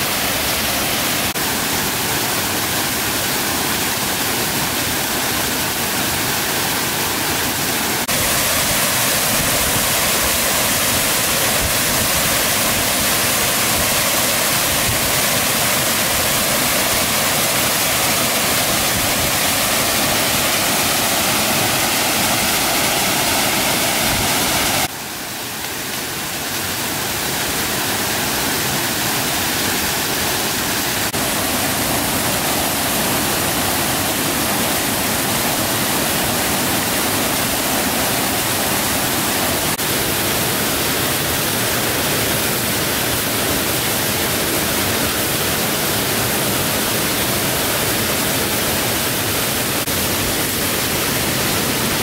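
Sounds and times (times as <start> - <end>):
rushing water: 0.0 - 52.0.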